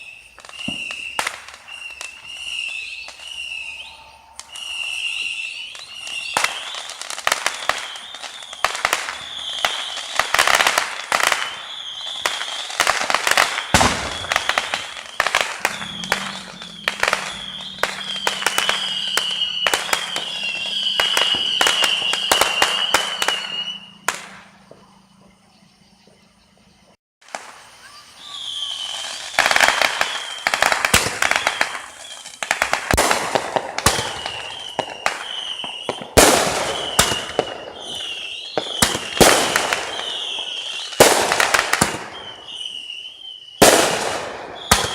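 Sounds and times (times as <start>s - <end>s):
high wavering whistle: 0.0s - 24.5s, 27.9s - 32.7s, 33.8s - 43.6s
fireworks bangs and crackles: 0.0s - 44.9s.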